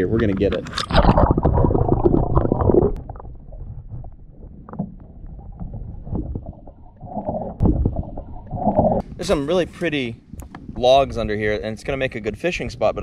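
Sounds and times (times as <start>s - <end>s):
muffled water sloshing underwater: 0.0s - 10.8s.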